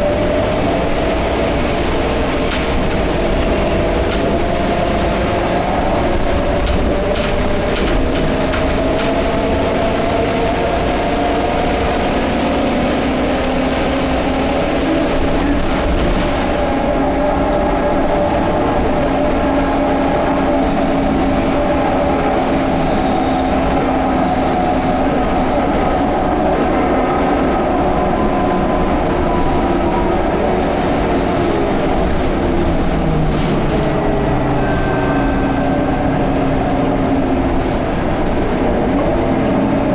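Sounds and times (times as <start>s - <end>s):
bus drivetrain humming: 0.0s - 39.9s.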